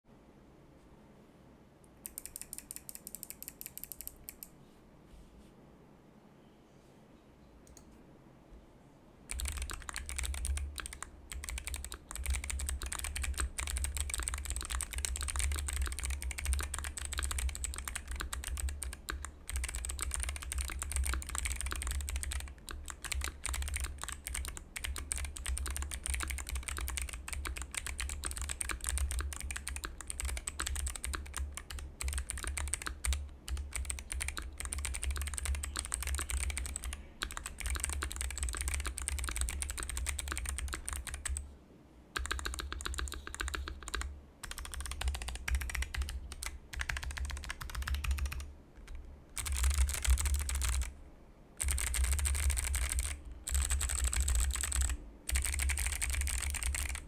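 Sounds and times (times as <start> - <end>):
mechanical keyboard typing: 2.0 - 4.5, 9.3 - 41.4, 42.2 - 50.9, 51.6 - 57.0.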